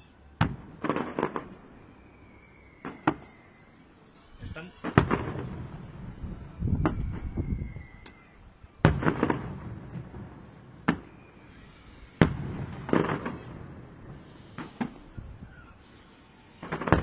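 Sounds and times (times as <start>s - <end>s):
firework bangs: 0.0s - 3.9s, 4.5s - 17.0s
firework crackling: 0.0s - 17.0s
firework whistle: 0.0s - 17.0s.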